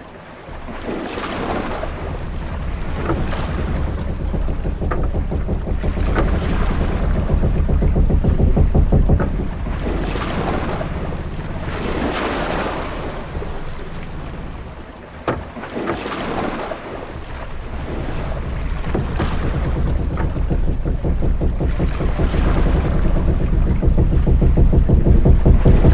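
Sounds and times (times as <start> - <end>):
low rumble: 0.5 - 15.1, 17.0 - 25.9
sharp knock: 0.5 - 15.4, 17.0 - 25.9
waves washing: 0.5 - 25.9.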